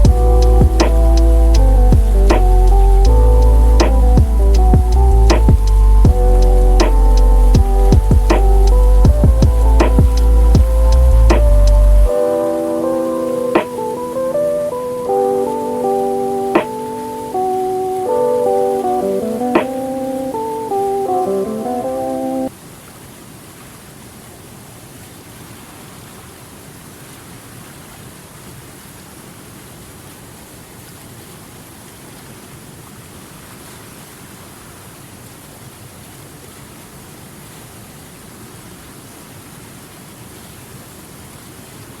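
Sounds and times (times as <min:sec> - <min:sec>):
rushing water: 0:00.0 - 0:42.0.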